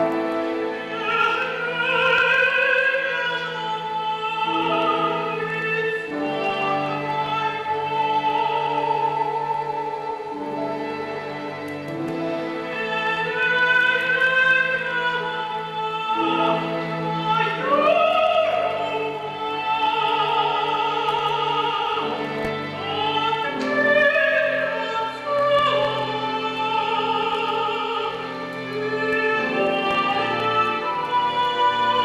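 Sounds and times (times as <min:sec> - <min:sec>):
chamber orchestra: 0:00.0 - 0:32.0.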